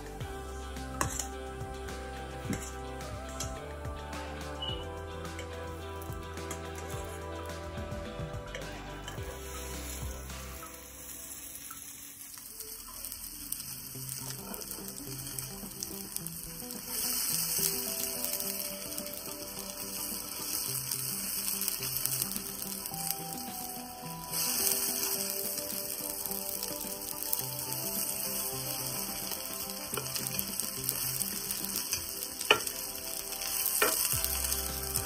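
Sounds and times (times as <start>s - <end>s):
fat sizzling in a frying pan: 0.0s - 35.0s
soft background music: 0.0s - 35.0s.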